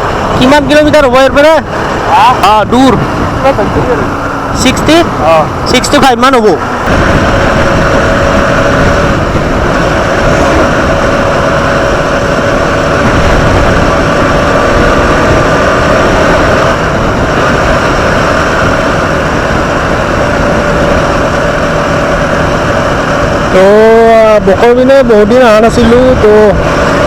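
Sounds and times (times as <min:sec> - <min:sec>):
motorcycle engine hum: 0:00.0 - 0:27.0
wind noise on microphone: 0:00.0 - 0:27.0.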